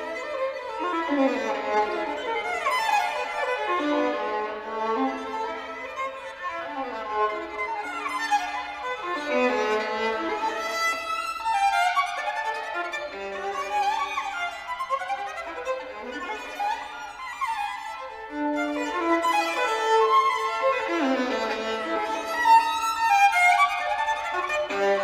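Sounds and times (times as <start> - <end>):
solo violin fast passage: 0.0 - 25.0.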